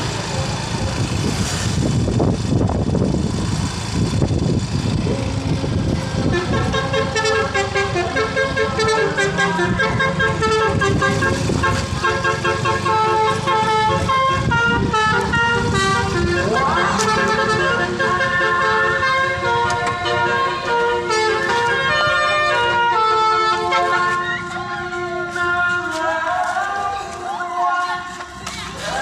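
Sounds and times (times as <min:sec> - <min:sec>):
bus engine and road noise: 0:00.0 - 0:29.0
musical bus horn tune: 0:05.0 - 0:28.4.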